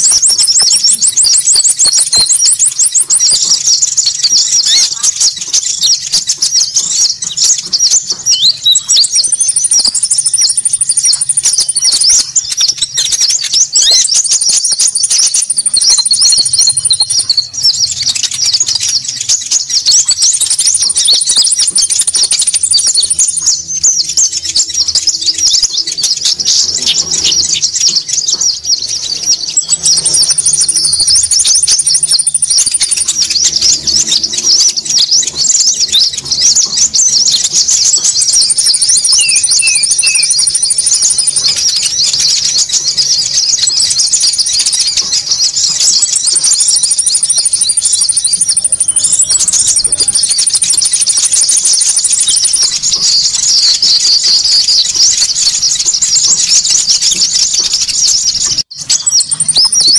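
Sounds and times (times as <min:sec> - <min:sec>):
birds chattering: 0:00.0 - 0:59.9.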